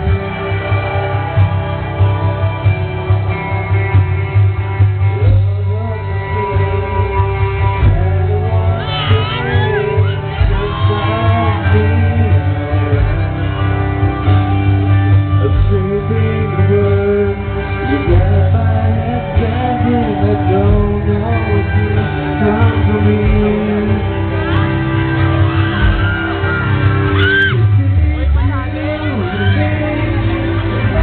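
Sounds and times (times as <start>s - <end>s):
amplified backing music with guitar: 0.0s - 31.0s
man singing pop love song: 5.0s - 31.0s.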